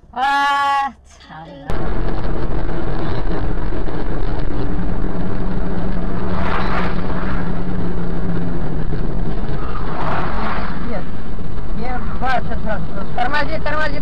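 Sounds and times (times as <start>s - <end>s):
car engine drone: 0.0s - 14.0s
road noise: 0.0s - 14.0s.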